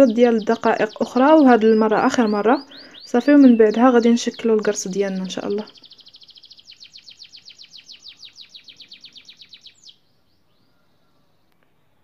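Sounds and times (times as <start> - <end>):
songbird trilling: 0.0 - 11.2.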